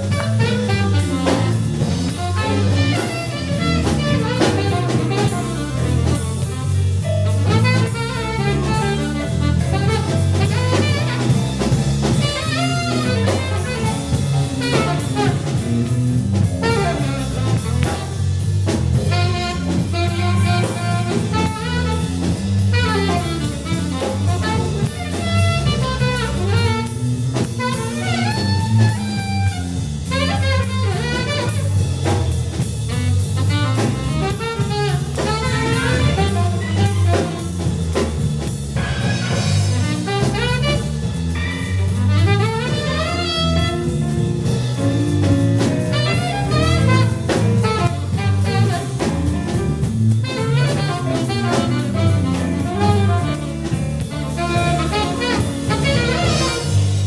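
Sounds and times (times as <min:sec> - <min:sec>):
bass: 0:00.0 - 0:57.0
drum kit: 0:00.0 - 0:57.0
lead instrument melody: 0:00.0 - 0:57.0.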